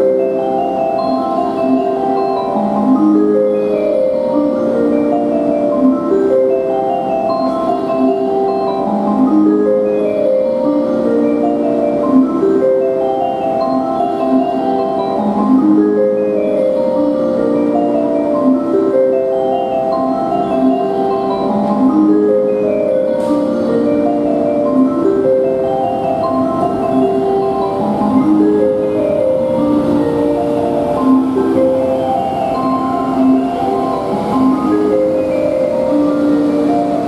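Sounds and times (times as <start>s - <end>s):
marimba-like melody over pa: 0.0s - 37.0s.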